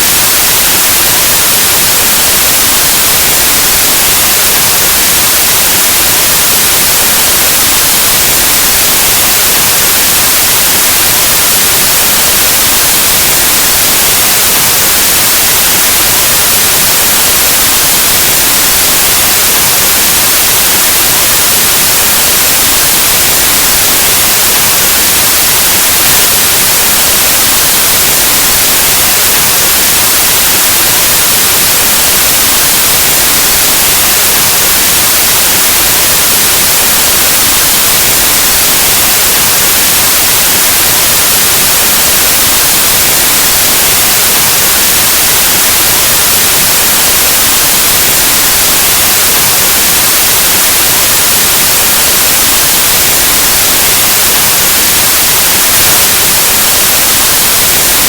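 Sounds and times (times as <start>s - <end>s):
loud white noise hiss: 0.0s - 58.0s.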